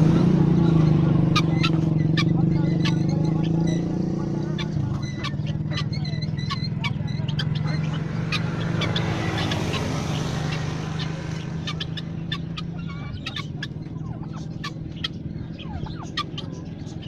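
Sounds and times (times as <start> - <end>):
poultry calling and chirping: 0.0 - 17.0.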